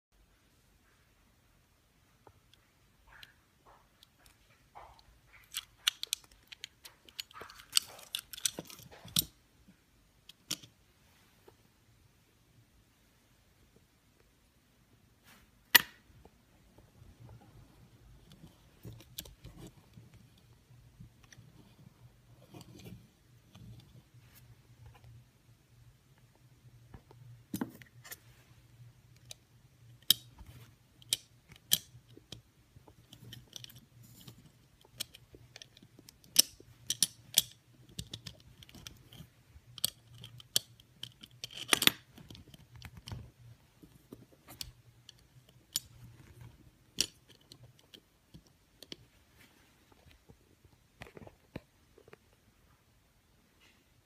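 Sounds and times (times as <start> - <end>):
faint low hum: 0.2 - 54.0.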